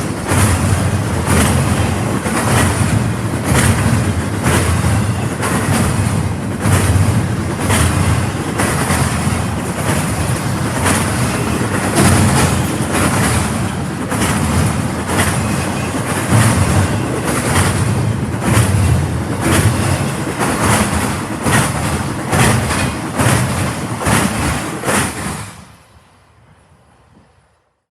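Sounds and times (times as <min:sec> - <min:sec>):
wheels clicking over rail joints: 0:00.0 - 0:25.4
train cars rolling past: 0:00.0 - 0:27.6.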